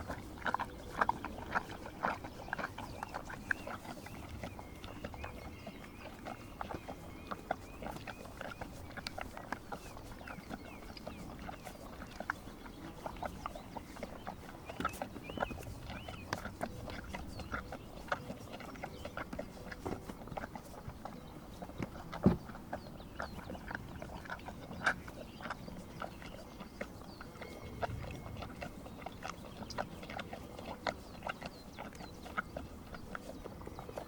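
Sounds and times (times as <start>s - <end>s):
horses licking wet smacks: 0.0s - 34.0s.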